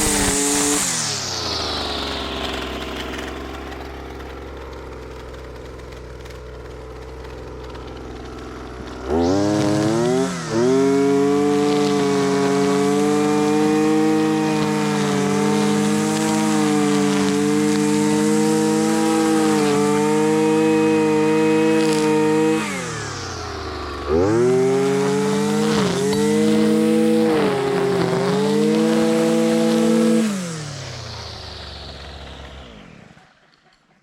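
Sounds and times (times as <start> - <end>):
string trimmer engine revving: 0.0 - 34.0.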